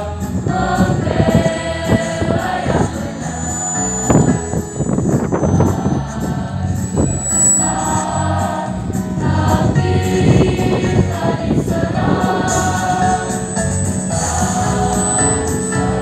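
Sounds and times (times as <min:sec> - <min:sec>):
choir singing: 0:00.0 - 0:16.0
electronic keyboard: 0:00.0 - 0:16.0.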